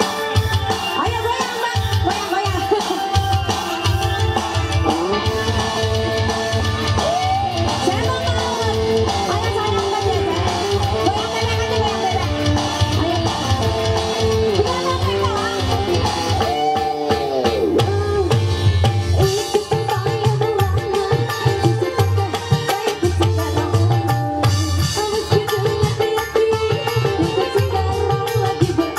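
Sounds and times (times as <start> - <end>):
pulsing drum beat: 0.0 - 28.9.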